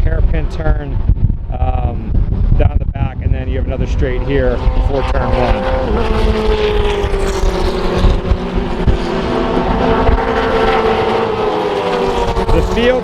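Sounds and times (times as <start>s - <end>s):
race car engines at speed: 0.0s - 13.0s
wind buffeting microphone: 0.0s - 13.0s.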